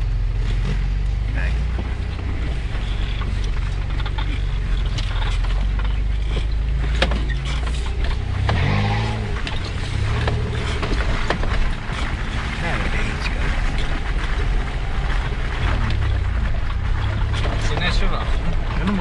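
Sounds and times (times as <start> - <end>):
knocks and rattles: 0.0 - 19.0
off-road vehicle engine running: 0.0 - 19.0.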